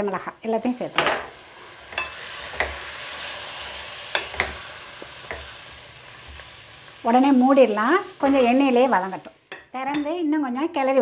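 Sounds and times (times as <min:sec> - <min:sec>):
meat sizzling in hot oil: 0:00.0 - 0:10.0.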